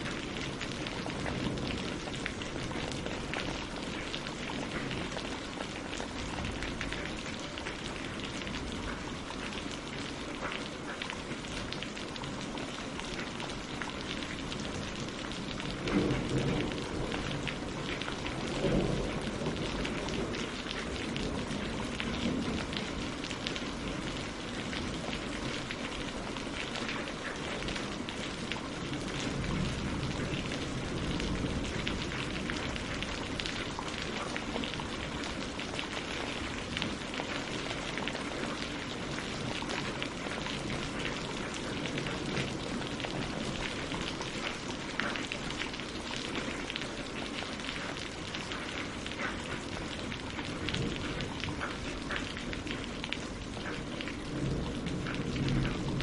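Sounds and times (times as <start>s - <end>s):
rain on leaves and water: 0.0s - 56.0s.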